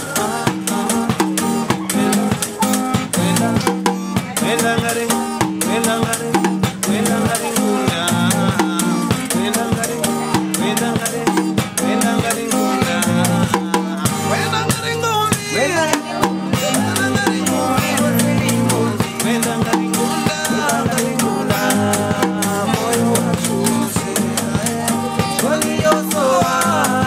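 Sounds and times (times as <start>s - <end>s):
acoustic guitar strumming: 0.0s - 27.0s
hand drums beating: 0.0s - 27.0s
men singing: 0.0s - 27.0s.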